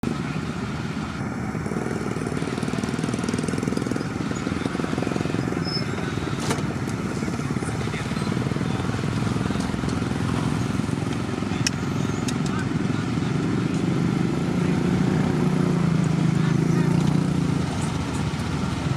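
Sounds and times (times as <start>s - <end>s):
heavy truck engine running: 0.0s - 18.9s.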